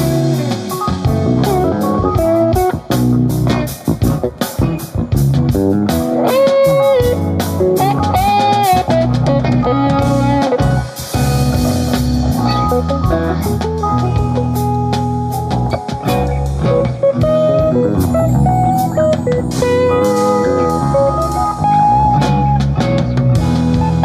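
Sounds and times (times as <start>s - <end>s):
band playing instrumental: 0.0s - 24.0s
electric guitar bent notes: 0.0s - 24.0s.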